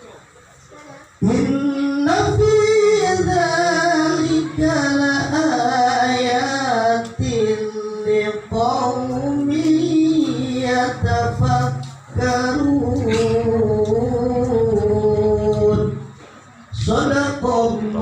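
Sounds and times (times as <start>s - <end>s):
melodic religious recitation: 0.8s - 18.0s.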